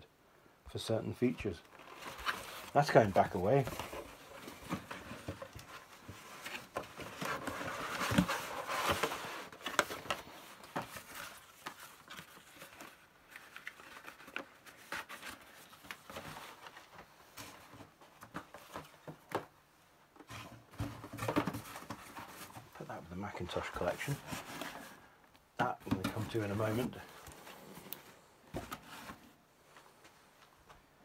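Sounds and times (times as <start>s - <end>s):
cardboard and paper rustling: 1.2s - 19.6s, 20.2s - 30.2s.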